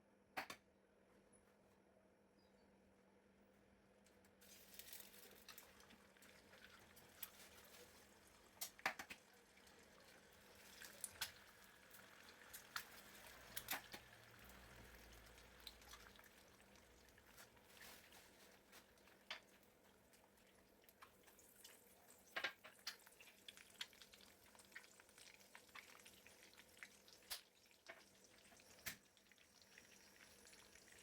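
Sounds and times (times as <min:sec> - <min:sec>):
eggs sizzling in oil: 0:04.4 - 0:31.0.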